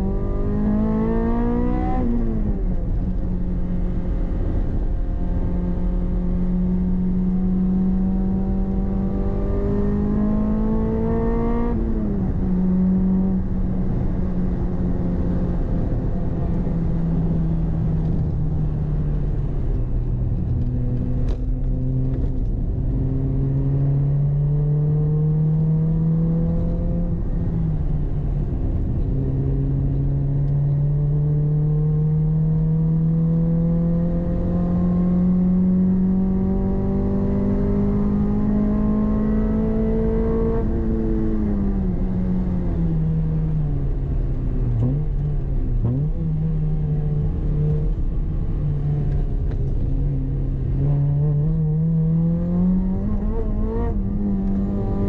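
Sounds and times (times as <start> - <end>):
car engine revving: 0.0 - 55.0
road and tyre noise: 0.0 - 55.0.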